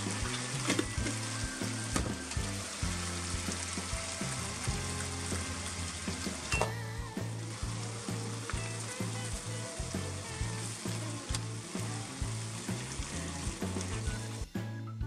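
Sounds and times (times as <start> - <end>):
vegetables sizzling in a frying pan: 0.0 - 14.4.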